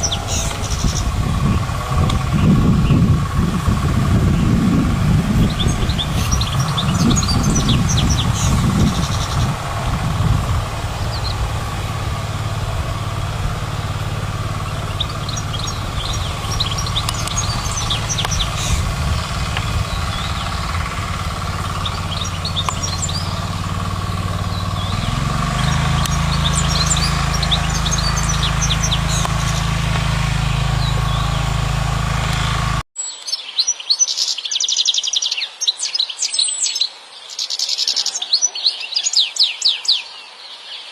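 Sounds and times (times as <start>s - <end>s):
steady low hum: 0.0s - 32.8s
bird twittering and trilling: 0.0s - 40.9s.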